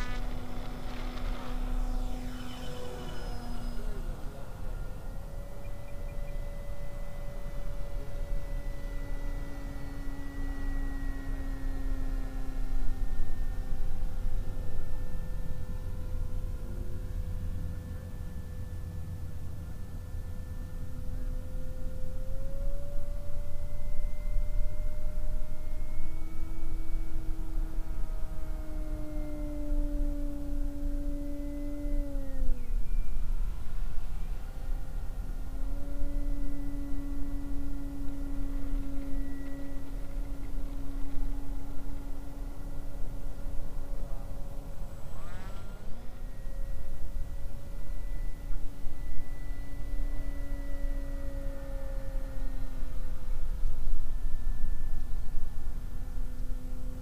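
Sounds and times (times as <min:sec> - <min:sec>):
model airplane motor droning: 0:00.0 - 0:57.0
wind rumble on microphone: 0:00.0 - 0:57.0.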